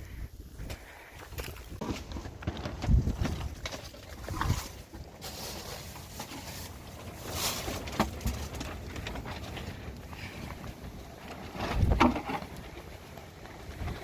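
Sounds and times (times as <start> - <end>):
rustling: 1.4 - 14.0.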